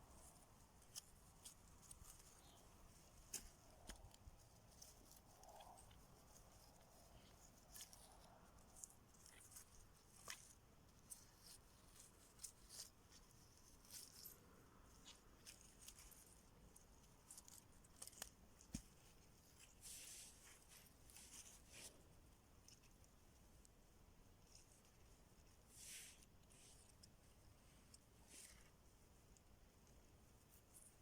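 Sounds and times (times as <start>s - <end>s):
faint scratches and clicks: 0.0s - 31.0s.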